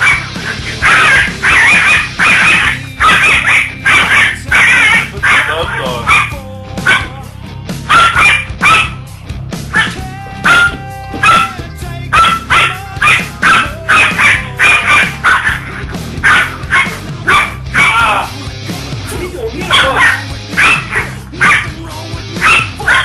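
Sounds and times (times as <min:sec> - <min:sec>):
dog barking: 0:00.0 - 0:07.2, 0:07.9 - 0:09.0, 0:09.7 - 0:18.4, 0:19.6 - 0:21.8, 0:22.4 - 0:23.0
background music: 0:00.0 - 0:23.0.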